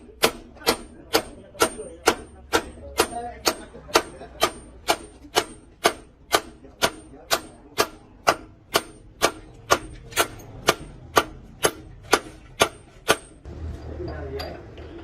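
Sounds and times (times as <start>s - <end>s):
hammer striking metal: 0.0s - 14.6s.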